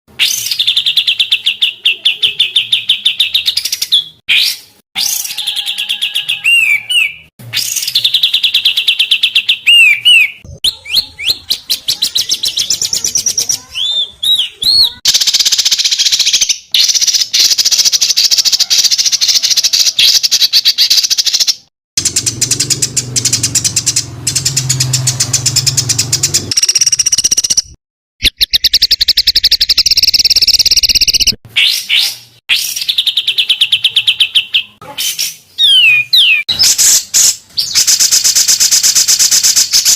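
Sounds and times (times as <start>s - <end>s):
songbird trills and chattering: 5.0s - 31.4s, 32.6s - 39.9s.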